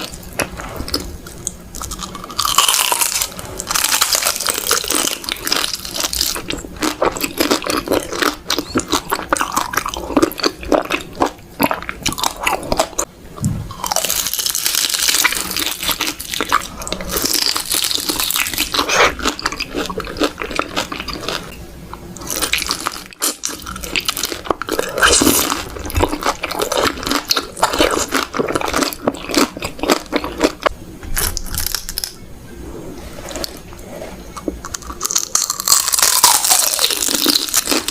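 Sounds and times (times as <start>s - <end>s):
chewing crunchy wet food: 0.0s - 13.1s, 13.7s - 21.5s, 22.1s - 32.1s, 34.4s - 37.9s.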